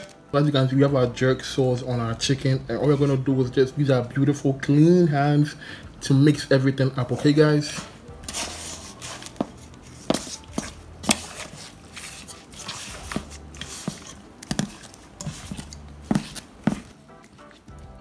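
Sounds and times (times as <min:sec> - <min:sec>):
hands squishing wet marinade: 0:00.8 - 0:04.7, 0:06.0 - 0:18.0.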